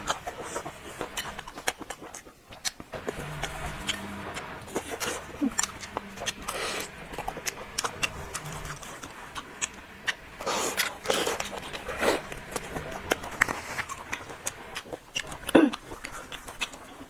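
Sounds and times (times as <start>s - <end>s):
crisp chewing crackles: 0.0s - 17.0s.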